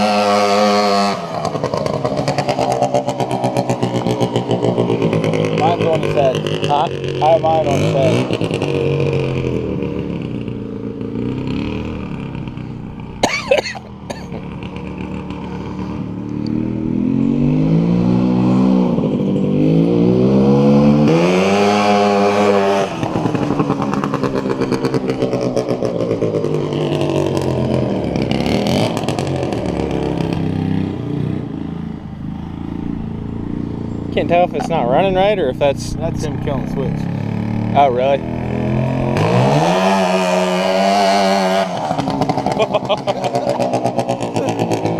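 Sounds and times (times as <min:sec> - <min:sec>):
go-kart engine revving: 0:00.0 - 0:44.9.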